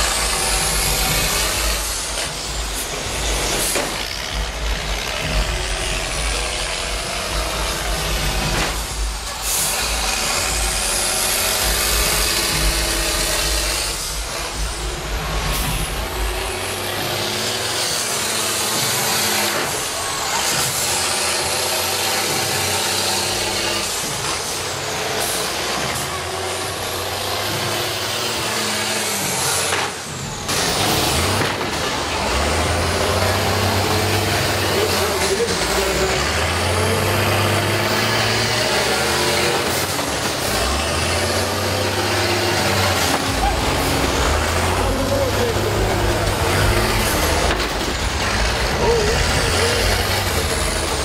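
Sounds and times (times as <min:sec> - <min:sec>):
bus engines revving: 0:00.0 - 0:51.0.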